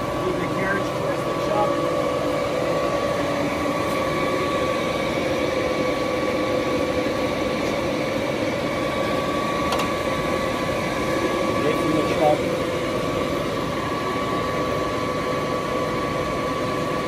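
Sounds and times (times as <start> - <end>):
gearing whine: 0.0 - 17.0
lathe running: 0.0 - 17.0.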